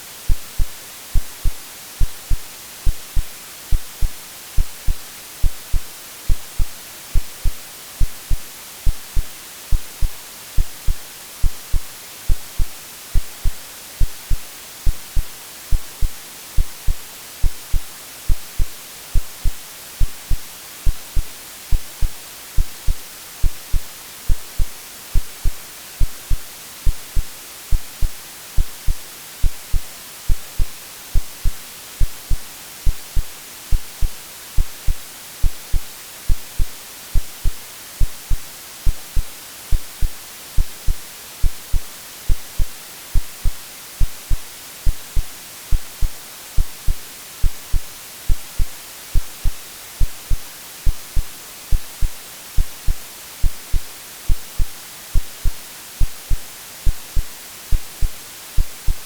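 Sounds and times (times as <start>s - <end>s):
white noise hiss: 0.0s - 59.0s
synthetic heartbeat thumps: 0.3s - 59.0s.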